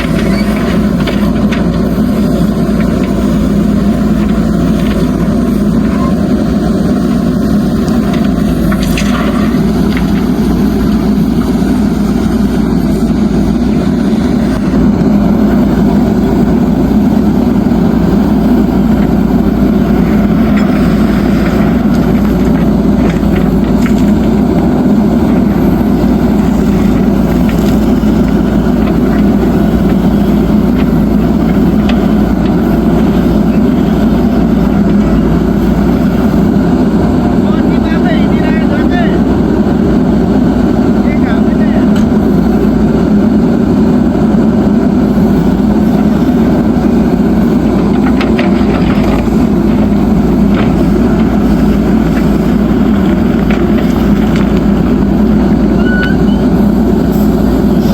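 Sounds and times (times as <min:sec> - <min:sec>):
heavy diesel machinery running: 0:00.0 - 0:57.9.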